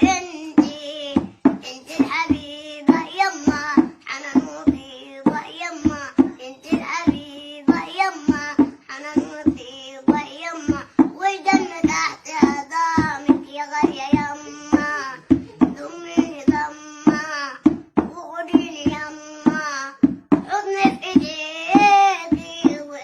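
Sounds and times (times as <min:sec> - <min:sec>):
boy singing: 0:00.0 - 0:23.0
sharp knocks or claps: 0:00.0 - 0:23.0.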